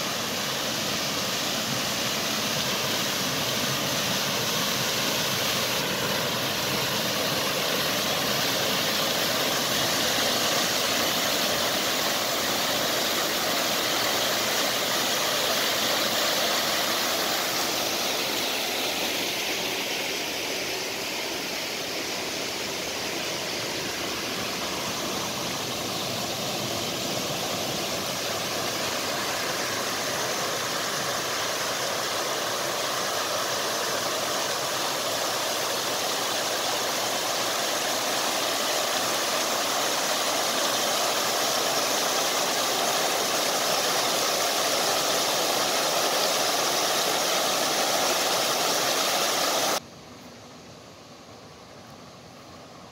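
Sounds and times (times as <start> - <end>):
water rushing over weirs: 0.0 - 49.9.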